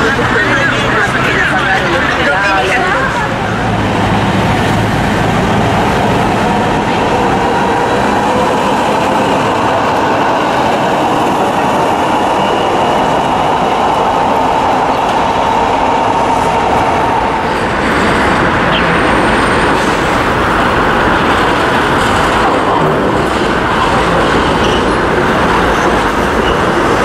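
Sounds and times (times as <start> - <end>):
tram rolling noise: 0.0 - 27.0
tram wheels rumbling on rails: 0.0 - 27.0.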